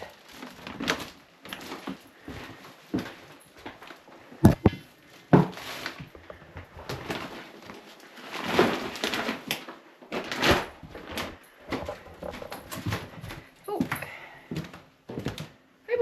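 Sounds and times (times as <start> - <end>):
rustling and shuffling: 0.0 - 15.6.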